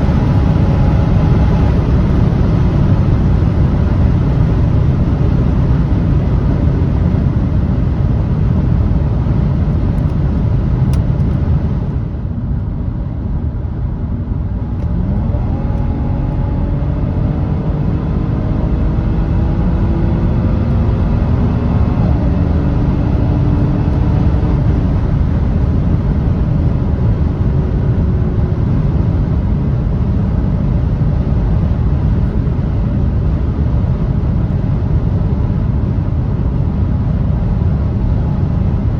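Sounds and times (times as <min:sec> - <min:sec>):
car engine accelerating: 0:00.0 - 0:12.1, 0:14.1 - 0:38.9
road rumble: 0:00.0 - 0:38.9
wind noise: 0:00.0 - 0:38.9.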